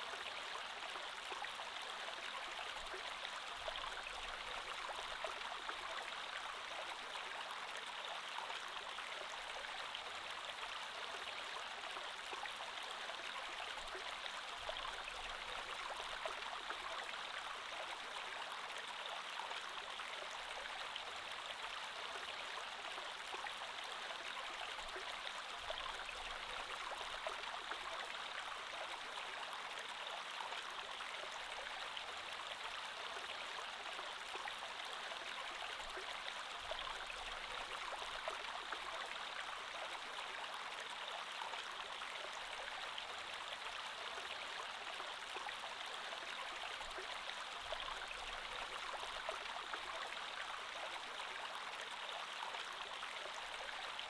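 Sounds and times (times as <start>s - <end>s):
creek water flowing: 0.0s - 54.0s.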